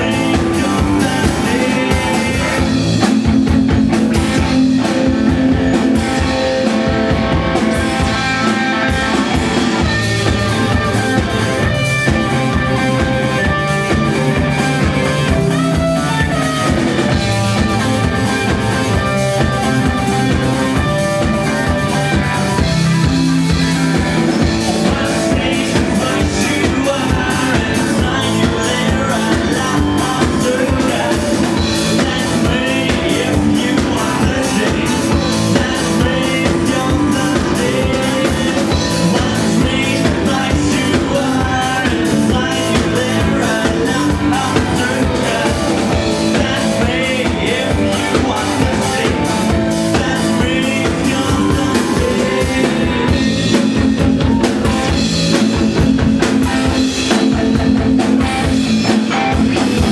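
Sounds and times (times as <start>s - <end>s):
rock music: 0.0s - 59.9s.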